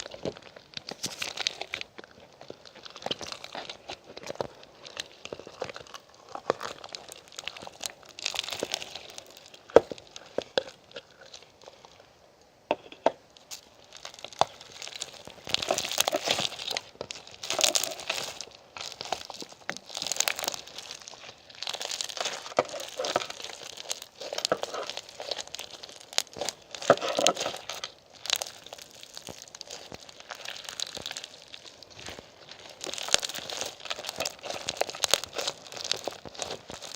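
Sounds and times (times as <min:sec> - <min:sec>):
packaging crinkling: 0:00.0 - 0:11.9, 0:13.3 - 0:36.9.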